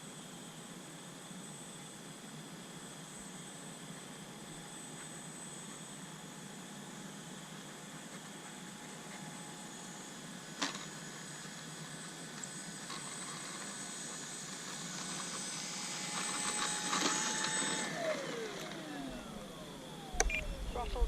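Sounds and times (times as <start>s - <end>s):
model plane electric motor whine: 0.1s - 20.8s.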